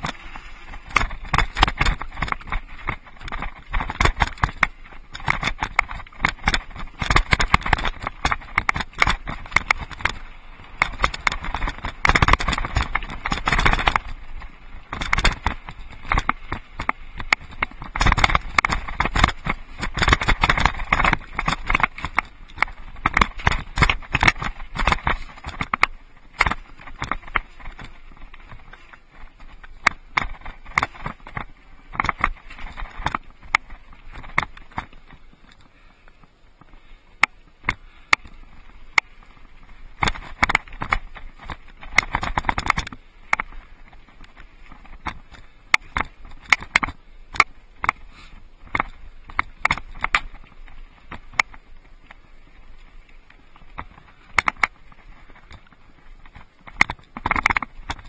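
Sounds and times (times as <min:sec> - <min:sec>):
mountain bike rattling: 0:00.0 - 0:58.0
tires crunching on stones: 0:00.0 - 0:58.0.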